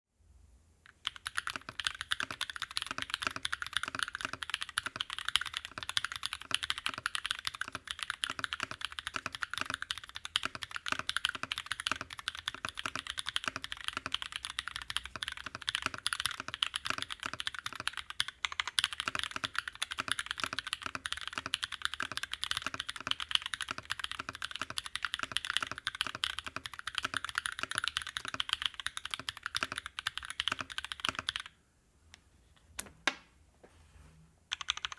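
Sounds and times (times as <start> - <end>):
mechanical keyboard typing: 0.9 - 31.5, 34.5 - 34.9.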